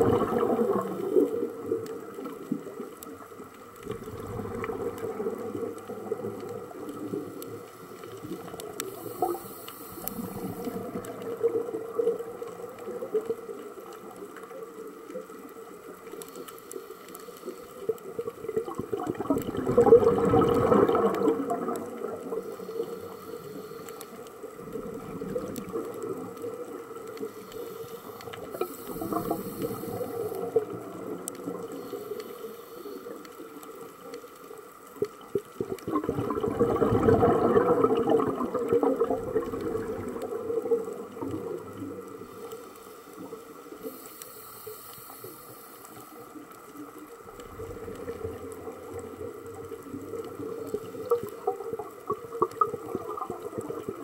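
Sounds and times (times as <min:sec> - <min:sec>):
faint clicks: 0:00.0 - 0:54.0
low underwater hiss: 0:00.0 - 0:54.0
regulator bubbles underwater: 0:00.0 - 0:54.0.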